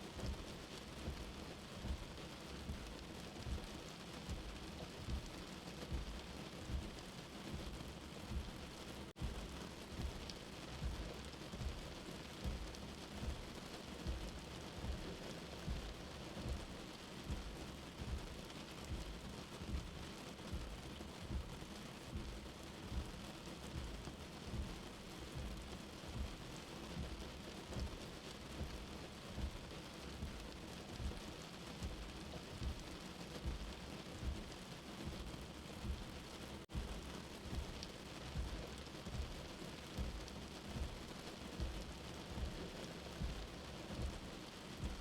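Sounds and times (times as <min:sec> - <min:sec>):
steady rain: 0:00.0 - 0:45.0
low heartbeat thumping: 0:00.2 - 0:45.0.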